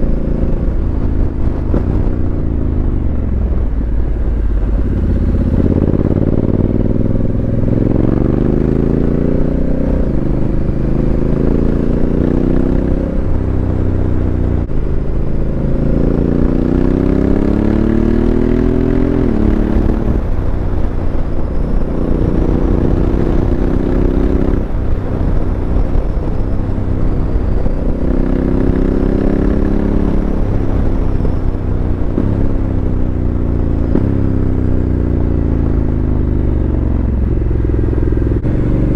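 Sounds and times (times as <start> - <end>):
motorcycle engine revving through gears: 0.0 - 38.9
wind noise on microphone: 0.0 - 38.9.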